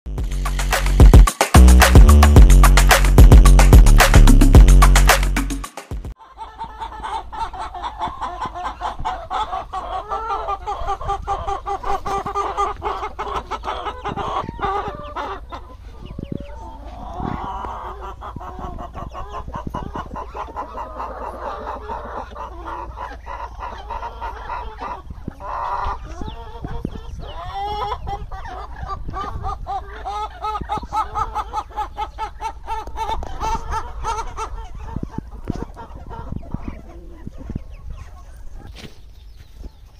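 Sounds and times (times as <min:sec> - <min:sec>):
chickens clucking: 0:00.4 - 0:39.9.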